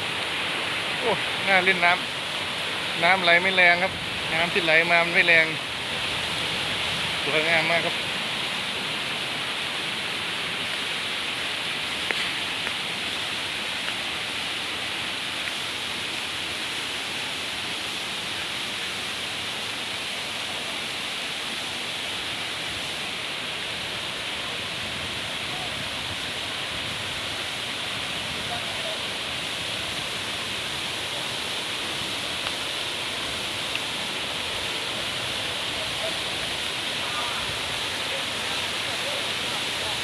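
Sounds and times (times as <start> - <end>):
waterfall rushing over rocks: 0.0 - 40.0.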